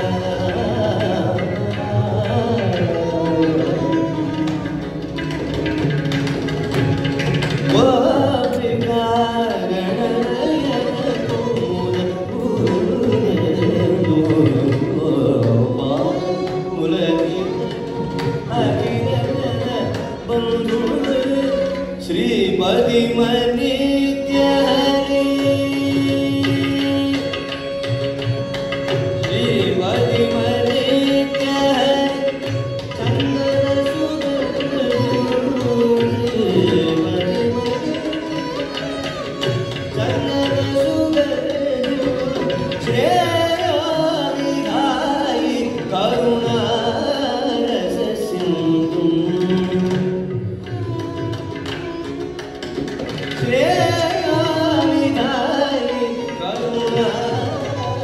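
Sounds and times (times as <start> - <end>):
violin accompaniment: 0.0 - 58.0.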